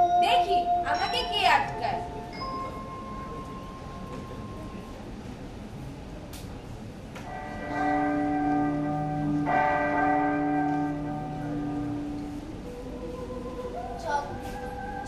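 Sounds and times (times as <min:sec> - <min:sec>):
deep bell-like tone: 0:00.0 - 0:05.3, 0:07.3 - 0:15.0
steady hum: 0:00.0 - 0:15.0.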